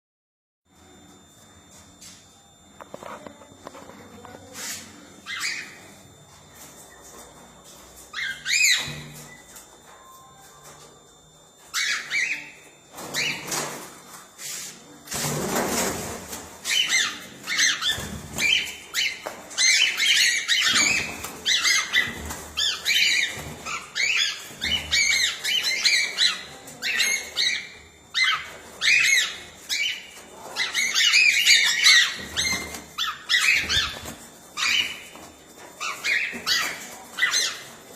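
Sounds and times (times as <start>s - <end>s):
cockatiels chirping and squawking: 4.6s - 5.9s, 6.6s - 10.8s, 11.6s - 14.0s, 15.2s - 37.9s.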